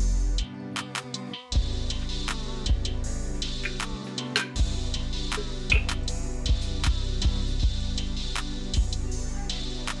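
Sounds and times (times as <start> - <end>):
music with heavy bass and drums: 0.0 - 10.0.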